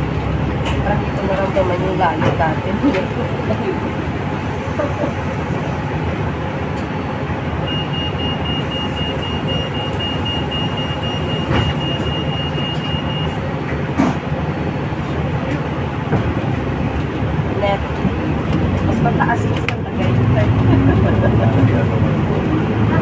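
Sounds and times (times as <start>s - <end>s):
road traffic engines: 0.0s - 23.0s.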